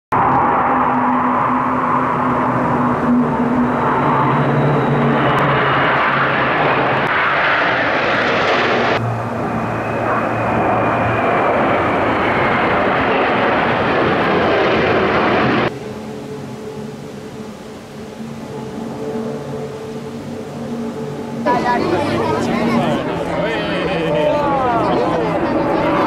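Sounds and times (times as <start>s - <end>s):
falling jet whine: 0.1s - 26.0s
jet aircraft roaring overhead: 0.1s - 26.0s
propeller aircraft drone: 0.1s - 26.0s.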